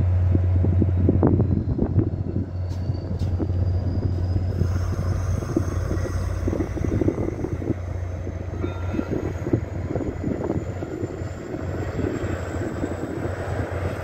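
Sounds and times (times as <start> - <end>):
train rumbling past: 0.0 - 14.0
train wheel clatter: 1.8 - 14.0.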